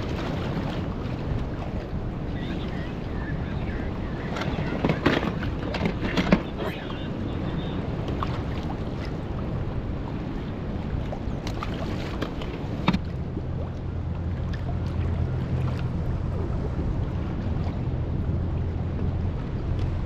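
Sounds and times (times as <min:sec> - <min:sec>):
water sloshing around boat: 0:00.0 - 0:20.0
wind rumbling on microphone: 0:00.0 - 0:20.0.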